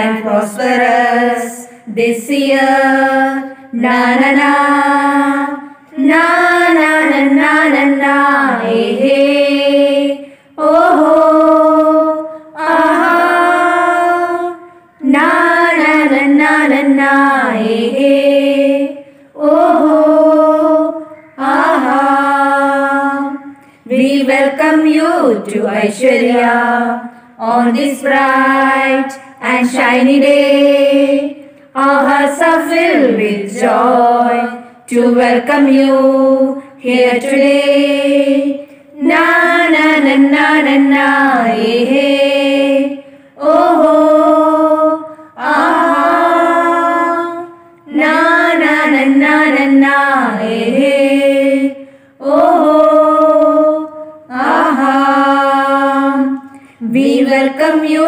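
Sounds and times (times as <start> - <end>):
woman singing unaccompanied: 0.0 - 58.0.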